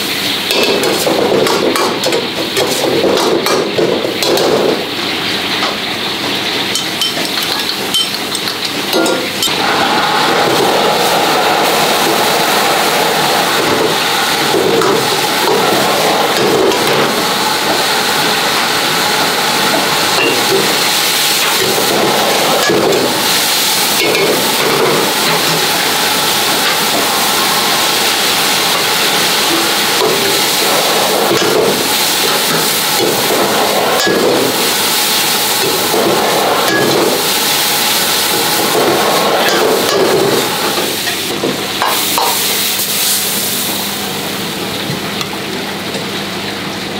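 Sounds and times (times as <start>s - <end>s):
gas burner noise: 0.0s - 46.9s
meat sizzling in a wok: 0.0s - 46.9s.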